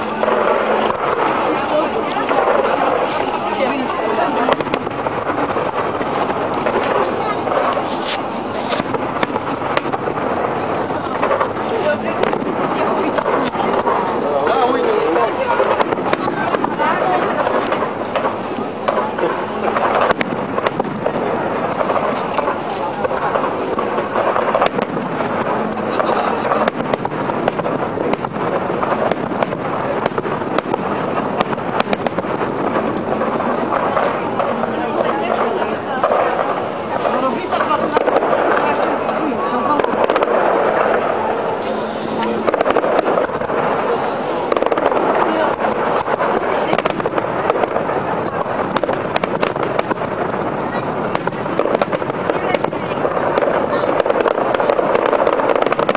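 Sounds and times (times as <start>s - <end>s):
fireworks barrage: 0.0s - 55.9s
sharp firework bangs: 0.0s - 55.9s.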